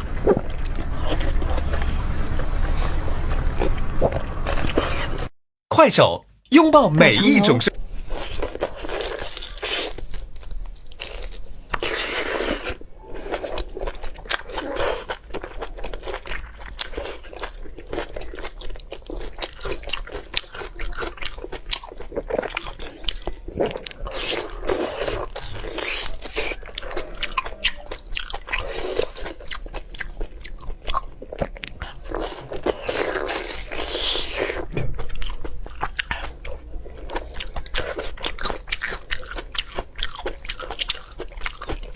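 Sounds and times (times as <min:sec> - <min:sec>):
wet chewing: 0:08.2 - 0:41.9.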